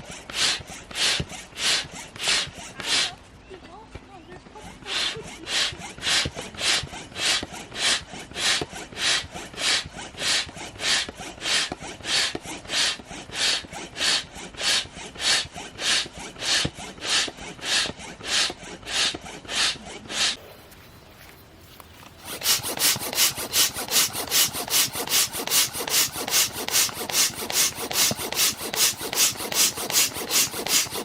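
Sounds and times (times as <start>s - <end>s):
hand saw cutting wood: 0.0s - 31.0s.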